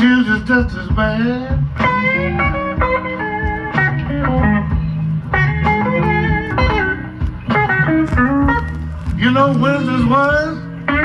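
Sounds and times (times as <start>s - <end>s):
blues band accompaniment: 0.0s - 11.0s
electric guitar with bent notes: 0.0s - 11.0s.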